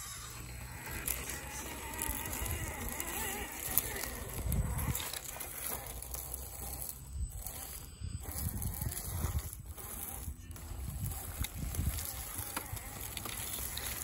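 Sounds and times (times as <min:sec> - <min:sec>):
small electric motor whining: 0:00.0 - 0:14.0
wind on microphone: 0:00.1 - 0:14.0.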